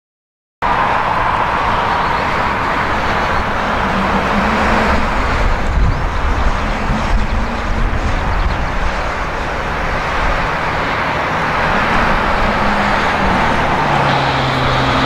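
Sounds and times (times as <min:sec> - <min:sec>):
jet engine whine: 0:00.6 - 0:15.0.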